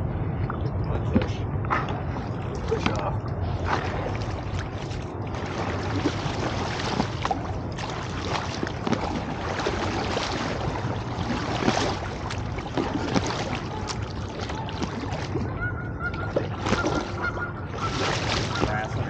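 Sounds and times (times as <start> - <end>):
steady low rumble: 0.0 - 19.0
water splashing around raft: 0.5 - 19.0.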